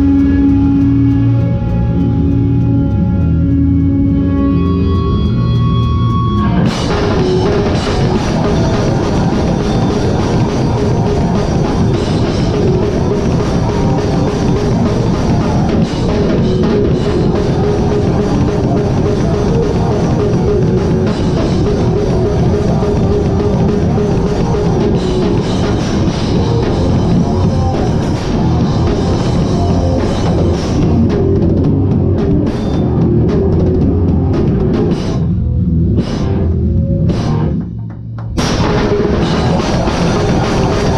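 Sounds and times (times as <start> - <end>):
hardcore band playing live: 0.0 - 37.6, 38.3 - 40.9
loud drum kit: 0.0 - 40.9.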